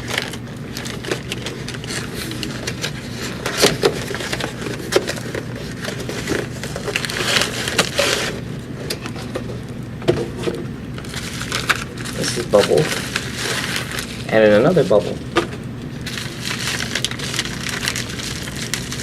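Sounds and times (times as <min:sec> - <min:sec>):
packing material rustling: 0:00.0 - 0:08.4, 0:11.0 - 0:19.0.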